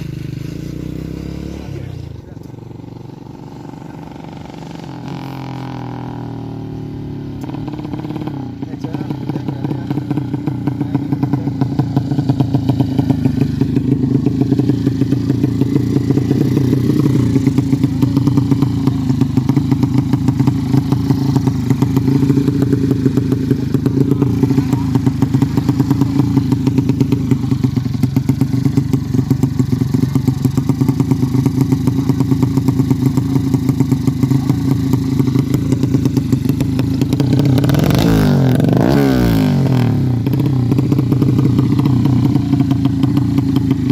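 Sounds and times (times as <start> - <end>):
motorbike engine idling and revving: 0.0 - 43.9.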